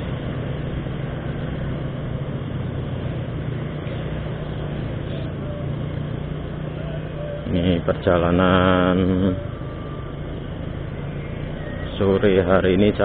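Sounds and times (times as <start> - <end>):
road and wind noise: 0.0 - 13.0
scooter engine hum: 0.0 - 13.0.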